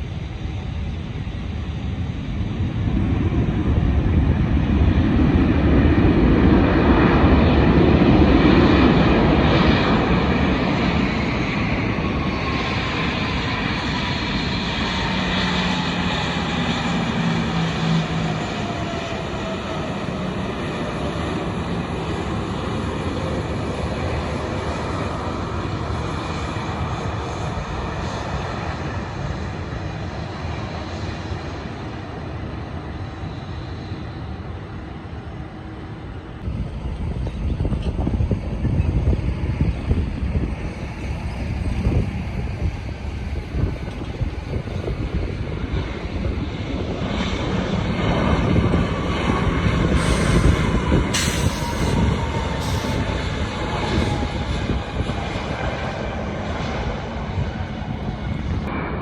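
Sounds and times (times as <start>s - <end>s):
airliner flying past: 0.0s - 59.0s
falling jet whine: 0.0s - 59.0s.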